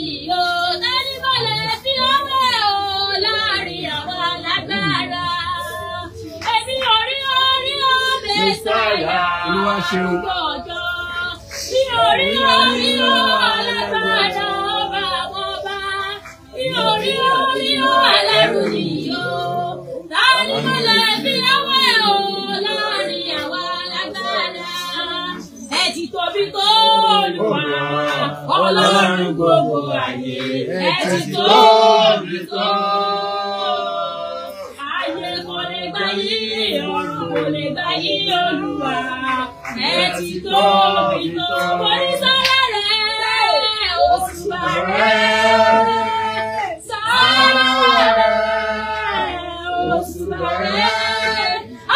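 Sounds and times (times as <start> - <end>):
woman singing unaccompanied: 0.0 - 51.9.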